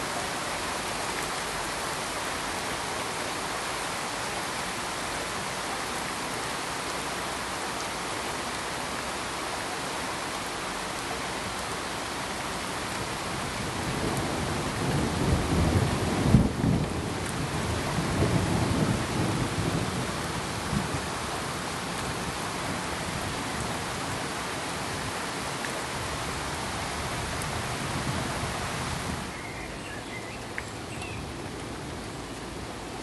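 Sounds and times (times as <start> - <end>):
rain-like rushing hiss: 0.0 - 33.0.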